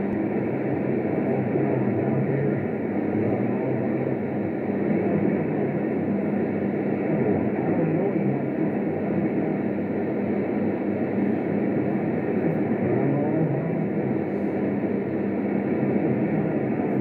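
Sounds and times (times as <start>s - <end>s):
faint low hum: 0.0s - 17.0s
radio static hiss: 0.0s - 17.0s.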